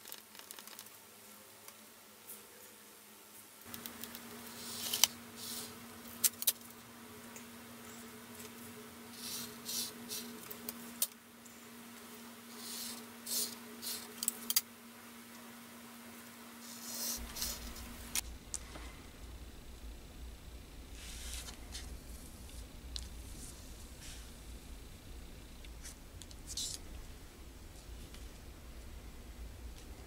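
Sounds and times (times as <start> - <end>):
low hum: 3.7 - 30.0.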